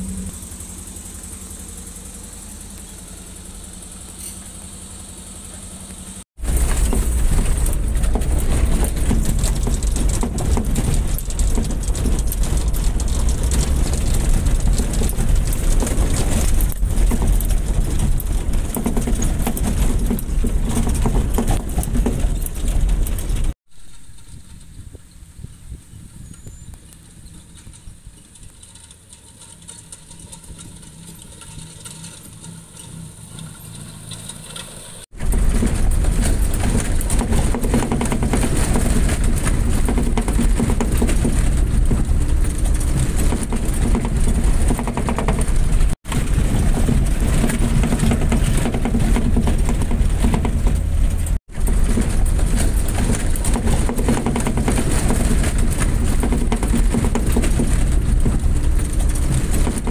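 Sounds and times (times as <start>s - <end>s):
off-road vehicle engine: 0.0s - 59.9s.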